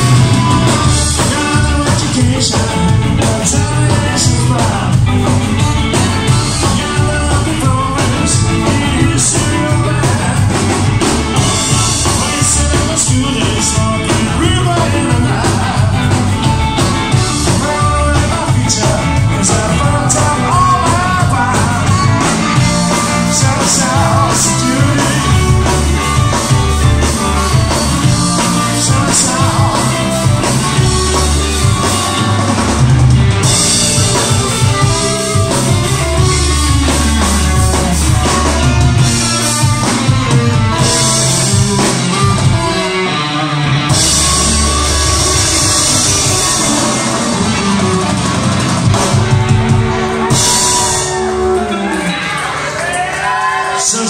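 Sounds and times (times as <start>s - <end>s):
ska band playing: 0.0s - 54.0s.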